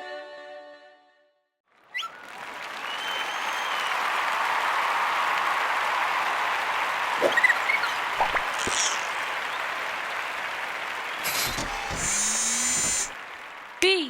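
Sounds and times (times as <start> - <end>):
people clapping: 1.7 - 14.0.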